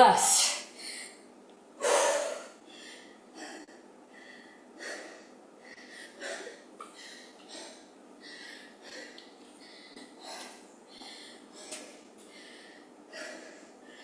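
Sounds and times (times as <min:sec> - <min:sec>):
person breathing hard: 0:00.7 - 0:01.2, 0:01.8 - 0:14.0.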